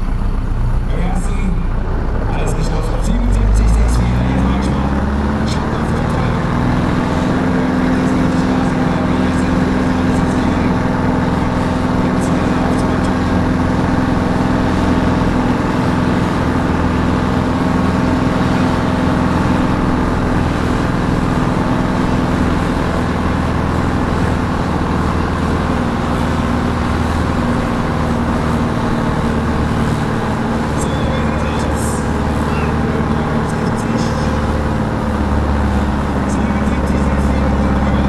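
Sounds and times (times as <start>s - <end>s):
diesel tractor engine running: 0.0s - 38.0s.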